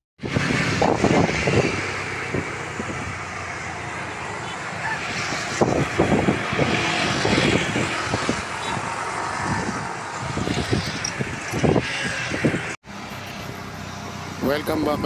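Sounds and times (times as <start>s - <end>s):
hiss of passing vehicles: 0.2s - 15.0s
low traffic rumbling: 0.2s - 15.0s.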